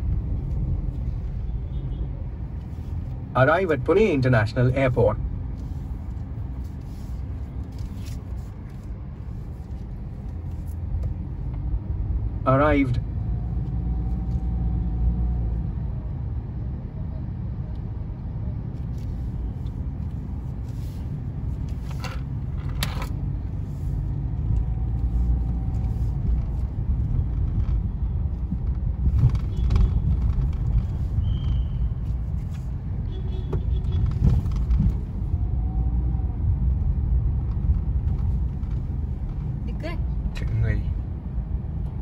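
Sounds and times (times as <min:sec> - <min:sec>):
car engine and tyres rumbling: 0:00.0 - 0:42.0.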